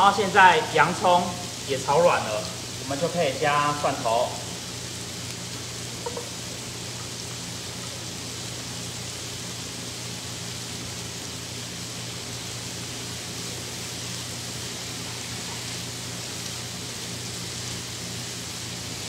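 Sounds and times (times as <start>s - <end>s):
carrots frying in pan: 0.0s - 19.0s
food sizzling in oil: 0.0s - 19.0s.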